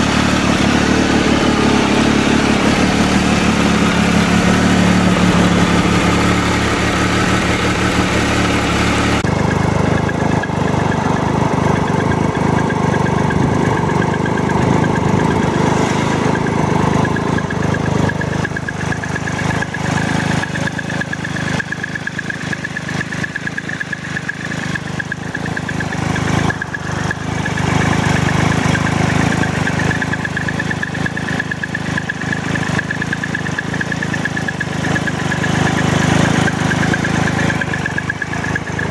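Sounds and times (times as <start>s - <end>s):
motorcycle engine rattling: 0.0s - 38.9s.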